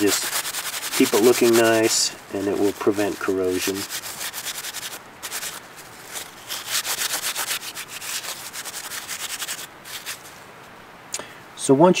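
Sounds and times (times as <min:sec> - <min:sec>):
paper towel scratching on wire mesh: 0:00.0 - 0:10.4.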